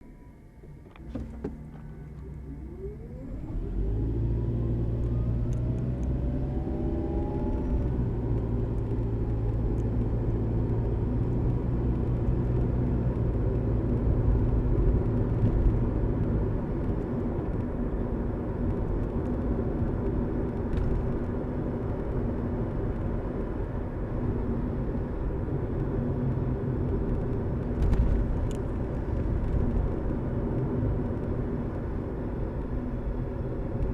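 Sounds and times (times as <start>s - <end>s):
hybrid car electric whine and drone: 0.0s - 33.9s.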